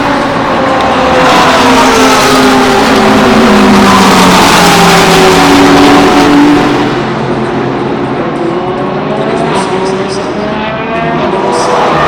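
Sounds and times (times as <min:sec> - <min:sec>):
racing cars passing at speed: 0:00.0 - 0:12.0.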